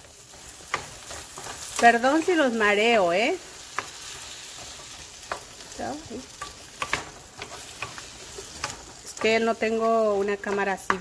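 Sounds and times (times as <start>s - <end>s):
vegetables sizzling in oil: 0.0s - 11.0s
wooden spoon scraping a pan: 0.0s - 11.0s.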